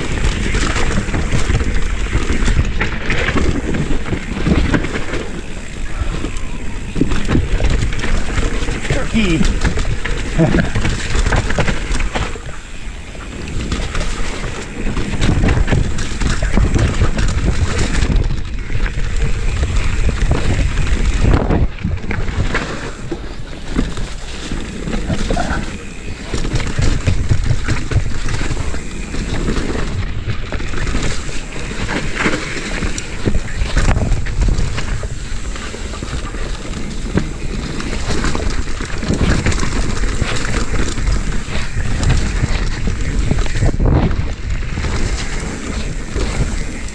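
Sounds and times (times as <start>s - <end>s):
bike knocking and rattling: 0.0s - 46.9s
tyres rolling over dirt: 0.0s - 46.9s
wind buffeting microphone: 0.0s - 46.9s.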